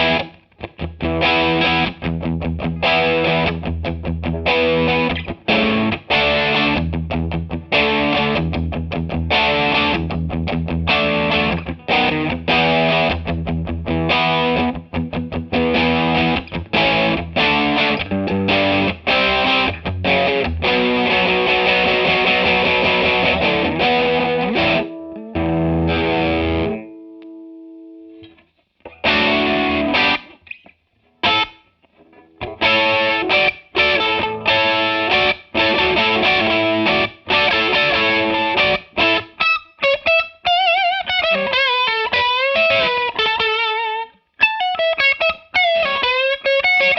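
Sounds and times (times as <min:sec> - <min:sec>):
electric guitar chords: 0:00.0 - 0:46.9.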